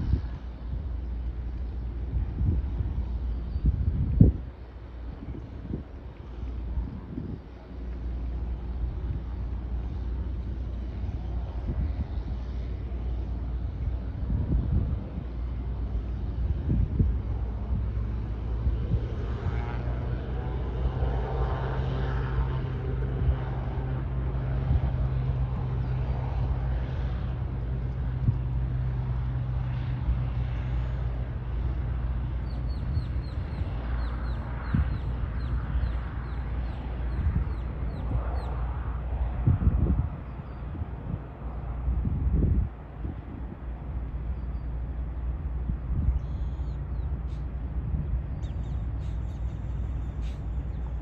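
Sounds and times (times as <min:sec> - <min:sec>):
distant turboprop engine hum: 0:00.0 - 0:51.0.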